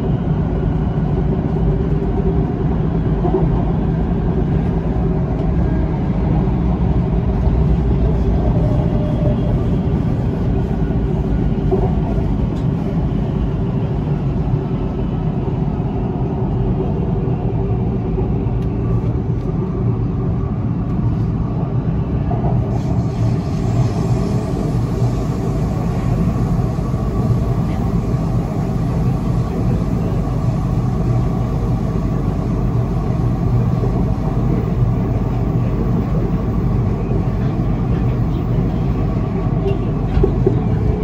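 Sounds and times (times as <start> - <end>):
metro train interior rumble: 0.0 - 41.0.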